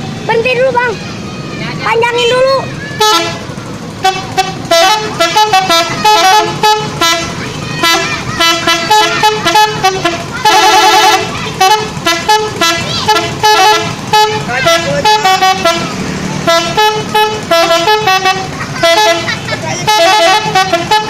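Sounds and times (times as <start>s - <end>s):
multi-tone horn playing a tune: 3.0s - 3.4s, 4.0s - 21.0s.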